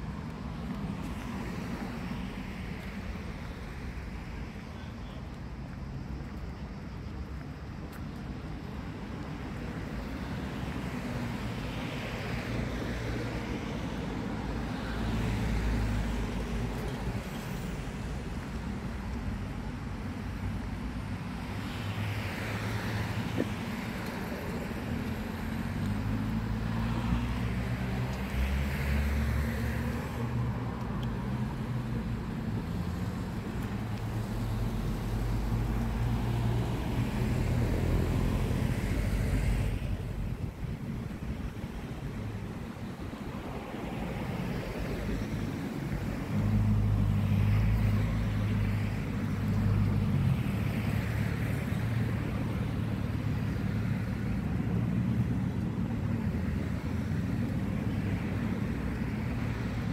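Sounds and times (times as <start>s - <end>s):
cars passing: 0.0s - 59.9s
low traffic rumble: 0.0s - 59.9s.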